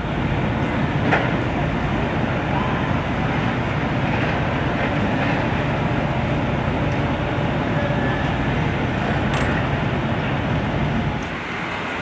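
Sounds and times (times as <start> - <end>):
street noise: 0.0 - 12.0
vehicle engines idling: 0.0 - 12.0.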